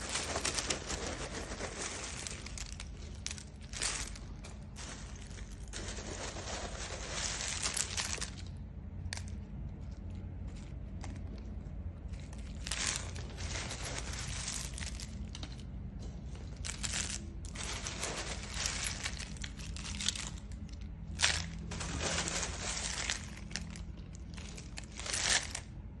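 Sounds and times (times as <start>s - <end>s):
wood chips rustling: 0.0s - 11.4s, 12.0s - 26.0s
steady low hum: 0.0s - 26.0s.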